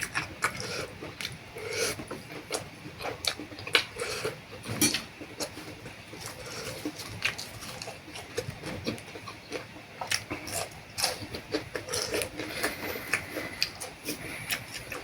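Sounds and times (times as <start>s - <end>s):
slurping and chewing noodles: 0.0s - 15.0s.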